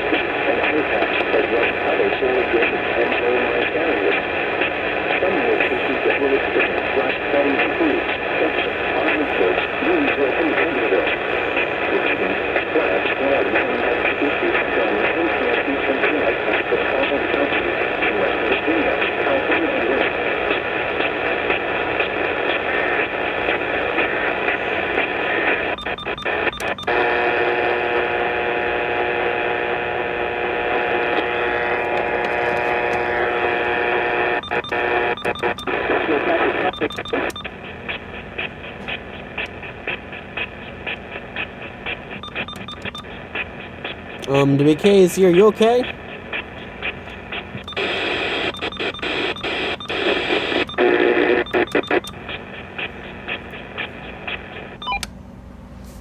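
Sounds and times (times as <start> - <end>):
radio hiss: 0.0 - 55.0
steady low hum: 0.0 - 56.0.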